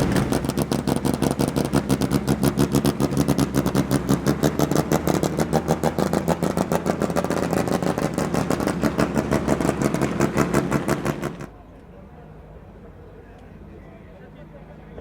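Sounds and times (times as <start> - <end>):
racing car engine idling lumpily: 0.0 - 15.0.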